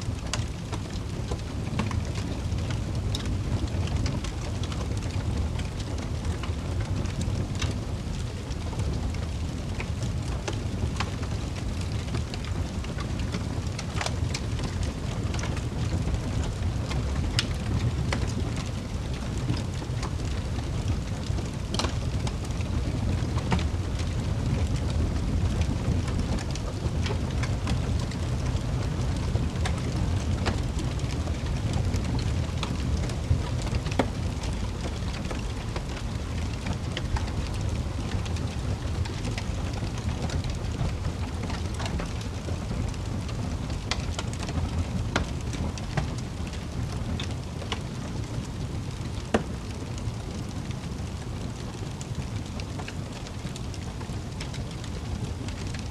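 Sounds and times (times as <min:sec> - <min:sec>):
wood fire crackling: 0:00.0 - 0:55.9
sharp crackles and pops: 0:00.1 - 0:55.9.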